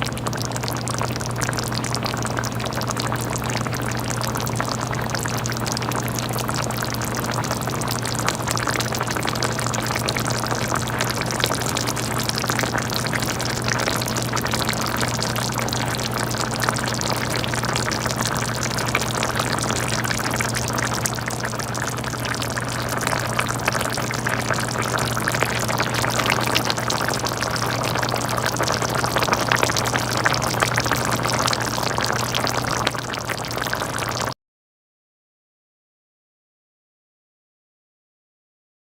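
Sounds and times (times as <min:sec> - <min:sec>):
sauce bubbling and popping: 0:00.0 - 0:34.4.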